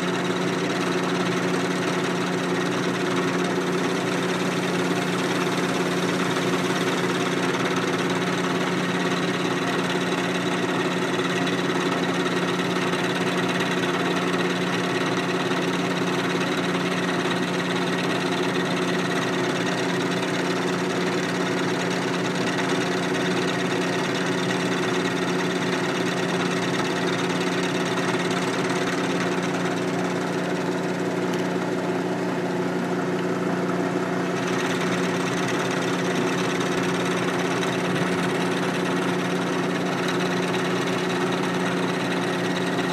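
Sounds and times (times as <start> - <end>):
milling machine running: 0.0 - 42.9.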